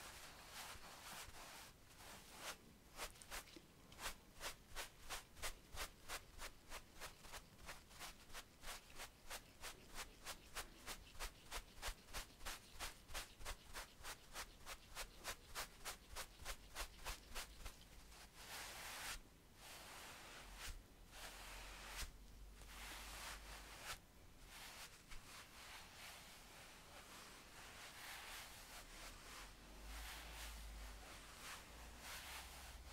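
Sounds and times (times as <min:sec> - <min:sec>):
paintbrushes brushing skin: 0:00.0 - 0:32.9.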